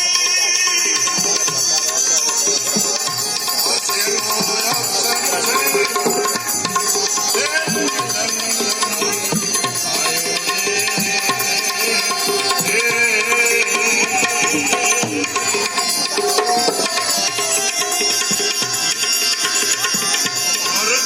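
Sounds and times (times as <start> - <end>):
wavering devotional melody: 0.0 - 21.0.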